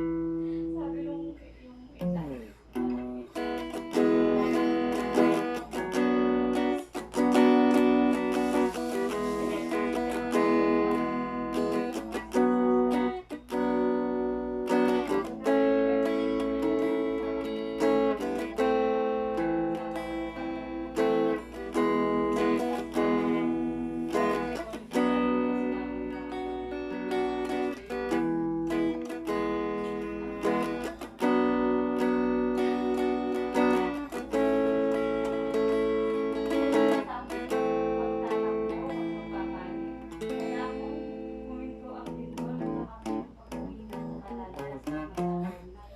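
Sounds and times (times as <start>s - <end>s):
electric guitar chords strummed: 0.0s - 1.3s, 2.0s - 45.8s.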